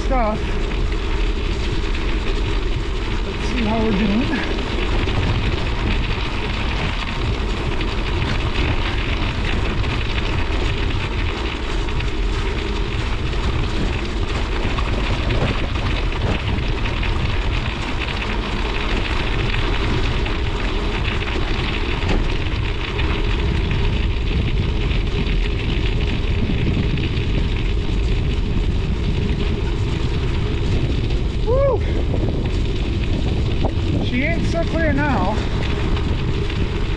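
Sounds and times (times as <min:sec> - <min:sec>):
bike tyre rolling over ice: 0:00.0 - 0:36.9
wind buffeting microphone: 0:00.0 - 0:36.9.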